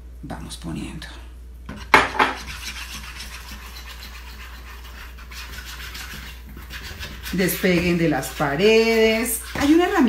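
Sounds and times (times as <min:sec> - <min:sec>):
whisk scraping dough in bowl: 0:01.7 - 0:10.0.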